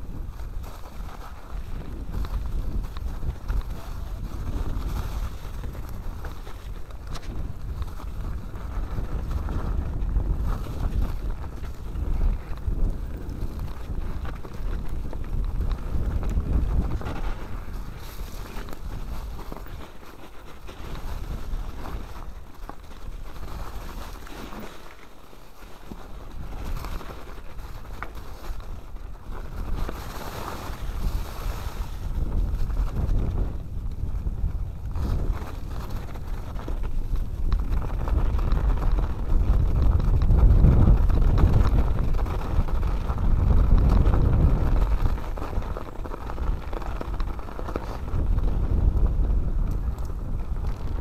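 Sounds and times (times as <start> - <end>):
wind on microphone: 0.0 - 25.0, 25.6 - 51.0
bike rattling over bumps: 0.0 - 51.0
bike tyre noise: 0.0 - 51.0.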